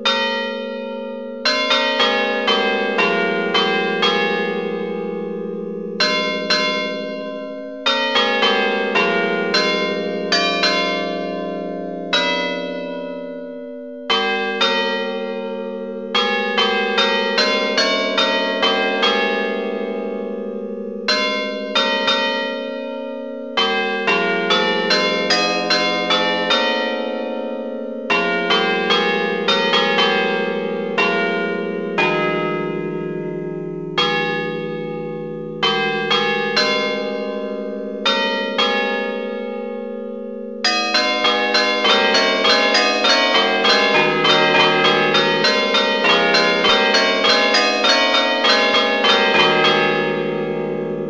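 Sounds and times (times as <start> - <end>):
church bells ringing: 0.0 - 51.0.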